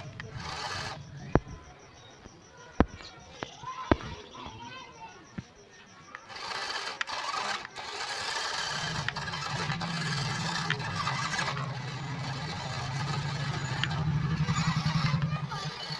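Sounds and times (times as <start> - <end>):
toy car electric motor humming: 0.0 - 1.8, 3.0 - 15.9
clicks: 0.0 - 15.9.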